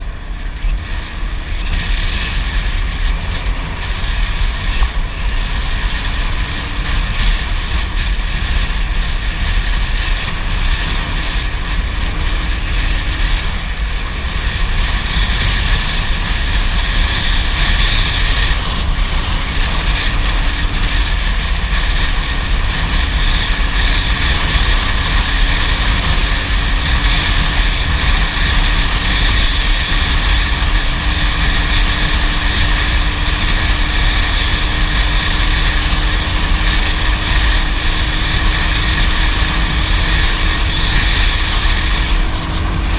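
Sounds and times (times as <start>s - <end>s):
abnormal engine noise: 0.0s - 42.9s
motorcycle engine running: 0.0s - 42.9s
wind on microphone: 0.0s - 42.9s.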